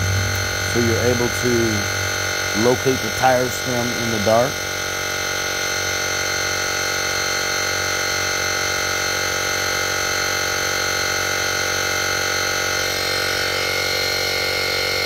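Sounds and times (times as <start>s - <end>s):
air compressor buzzing hum: 0.0s - 15.0s.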